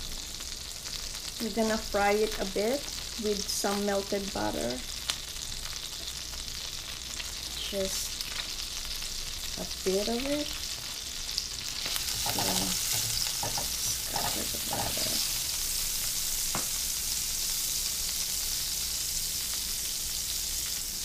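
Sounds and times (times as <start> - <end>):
butter sizzling in a frying pan: 0.0 - 21.0.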